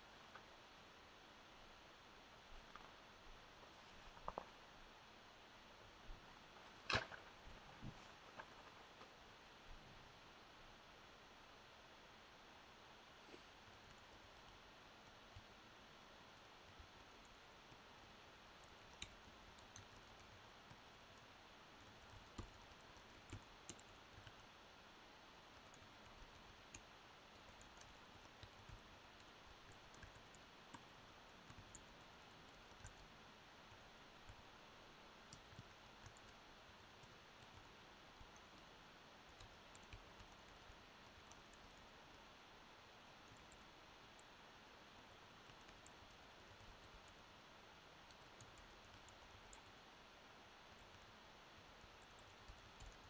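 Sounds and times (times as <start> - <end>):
faint room hiss: 0.0 - 53.0.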